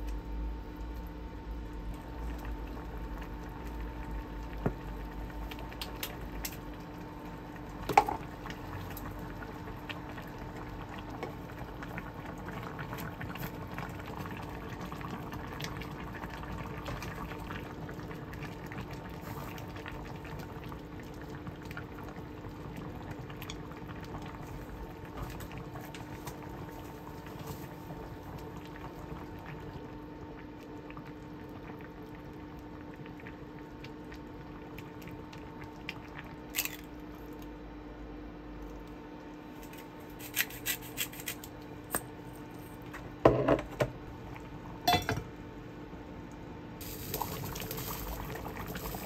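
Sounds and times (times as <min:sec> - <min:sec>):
faint steady hum: 0:00.0 - 0:49.0
liquid boiling in a pot: 0:00.0 - 0:49.0.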